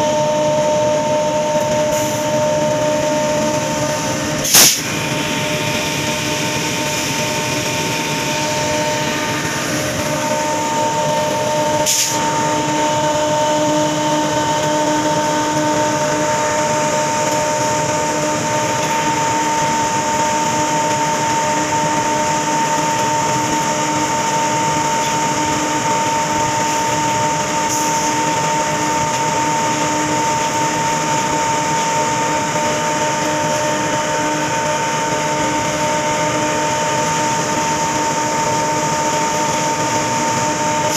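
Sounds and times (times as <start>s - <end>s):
constant whine: 0.0s - 40.9s
train wheels on rail: 0.0s - 40.9s.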